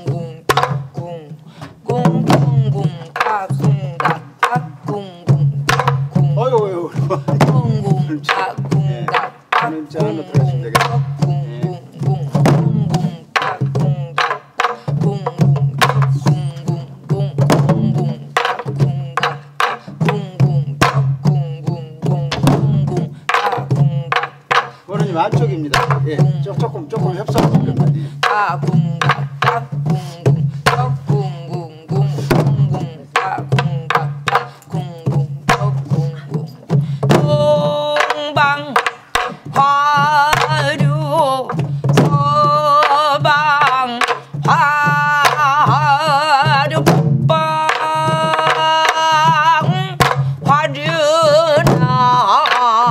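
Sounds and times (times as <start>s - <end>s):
woman singing with vibrato: 0.0s - 52.9s.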